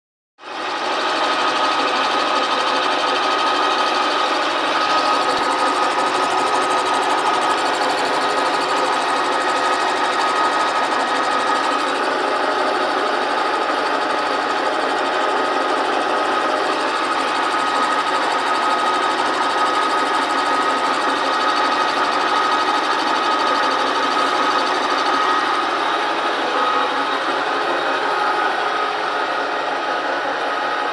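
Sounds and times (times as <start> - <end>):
milling machine cutting steel: 4.0 - 29.2.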